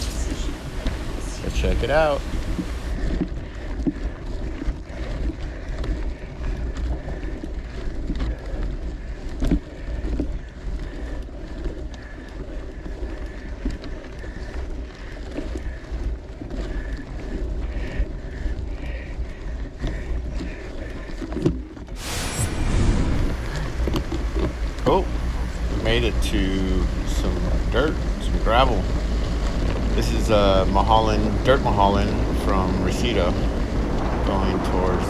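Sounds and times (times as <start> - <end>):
wind buffeting microphone: 0.0 - 21.2, 22.0 - 35.0.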